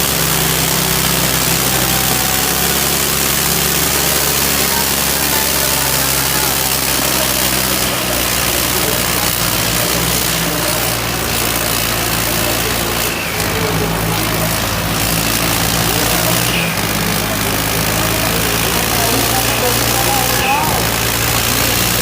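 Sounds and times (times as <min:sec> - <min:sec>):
tractor engines running: 0:00.0 - 0:22.0.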